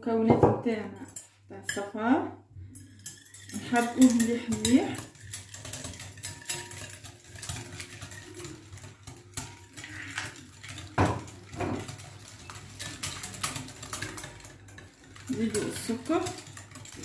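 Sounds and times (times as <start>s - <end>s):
whisk clicking against glass bowl: 2.8s - 17.0s.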